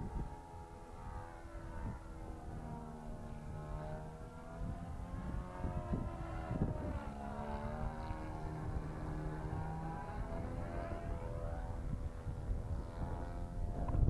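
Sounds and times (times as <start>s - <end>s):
model airplane engine whining: 0.0s - 14.0s.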